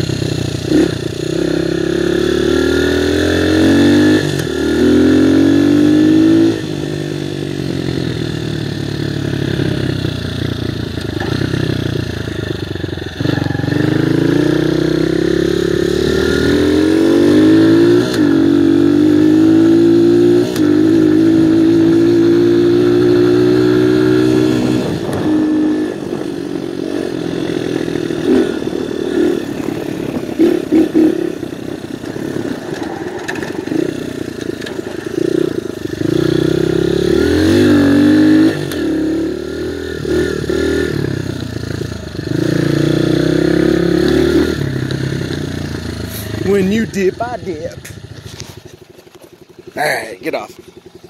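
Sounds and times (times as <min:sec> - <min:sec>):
dirt bike engine running: 0:00.0 - 0:51.0.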